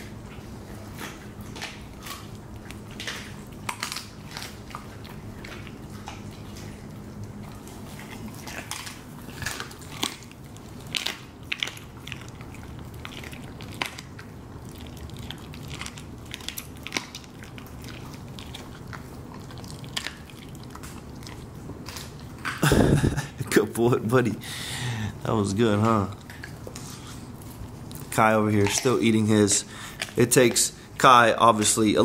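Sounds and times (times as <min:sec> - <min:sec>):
dog chewing wetly: 0:00.0 - 0:32.0
small bones crunching: 0:00.3 - 0:22.7, 0:25.3 - 0:32.0.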